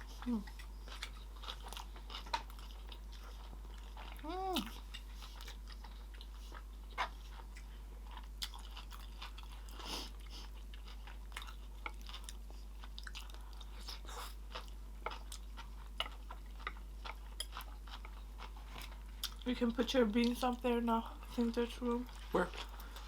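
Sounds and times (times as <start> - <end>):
chewing with crunches: 0.0 - 23.0.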